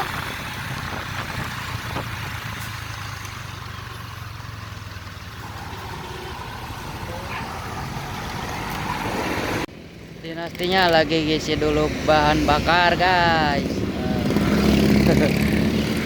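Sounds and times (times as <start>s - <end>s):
diesel engine idling: 1.7s - 16.0s.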